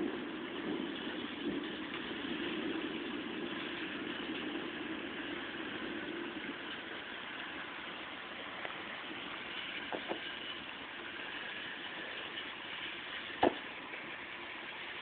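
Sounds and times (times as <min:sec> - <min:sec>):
heavy rain through window: 0:00.0 - 0:15.0.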